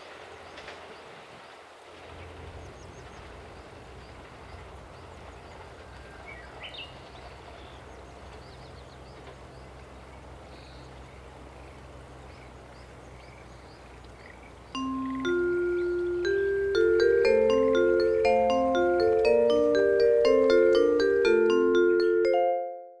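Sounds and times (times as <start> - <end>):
distant train rumble: 0.0 - 22.6
small birds chirping: 2.2 - 20.8.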